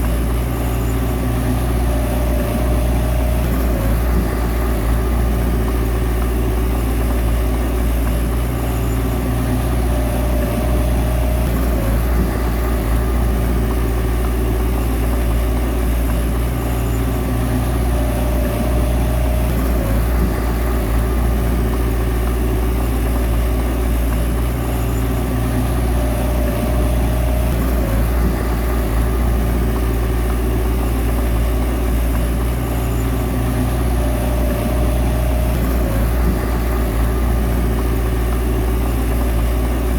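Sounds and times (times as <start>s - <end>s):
bulldozer diesel engine humming: 0.0s - 39.9s
high engine whine: 0.0s - 39.9s.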